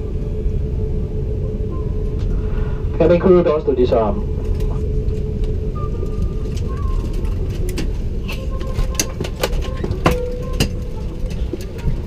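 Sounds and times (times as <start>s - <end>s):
low cabin rumble: 0.0s - 12.0s.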